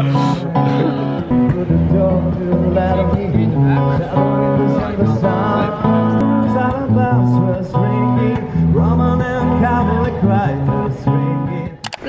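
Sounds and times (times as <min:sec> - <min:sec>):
strummed acoustic guitar: 0:00.0 - 0:11.9.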